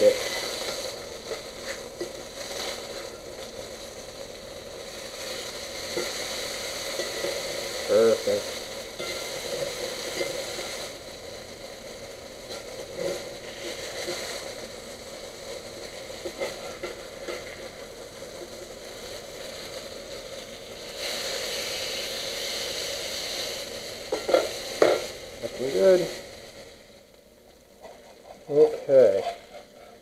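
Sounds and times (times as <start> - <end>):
fish sizzling in a skillet: 0.0 - 30.0.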